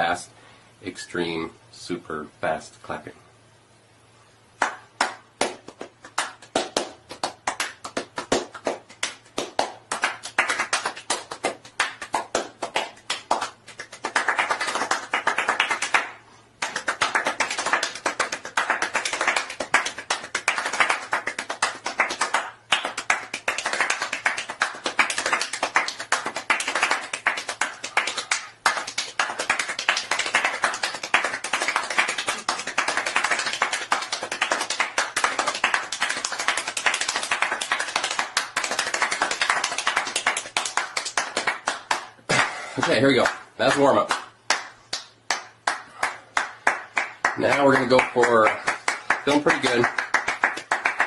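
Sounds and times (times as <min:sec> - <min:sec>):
hands clapping very fast: 0:04.6 - 0:51.0.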